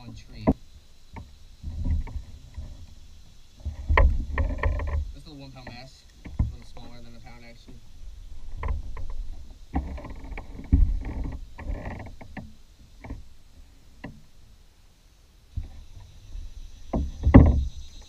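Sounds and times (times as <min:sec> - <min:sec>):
knocks and bumps in a plastic kayak: 0:00.0 - 0:14.3, 0:15.5 - 0:18.0.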